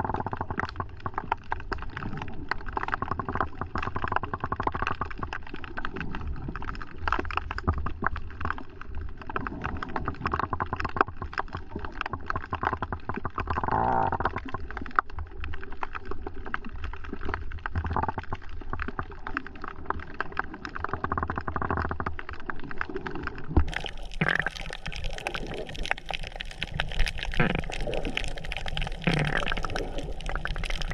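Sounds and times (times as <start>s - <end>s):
muffled underwater gurgling: 0.0s - 7.1s, 9.1s - 14.8s, 17.7s - 30.9s
small clicks and crackles: 0.0s - 30.9s.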